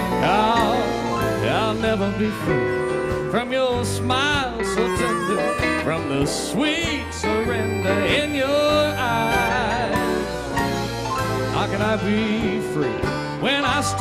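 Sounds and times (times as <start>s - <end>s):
harmonica melody: 0.0s - 12.2s
western swing band playing: 0.0s - 14.0s.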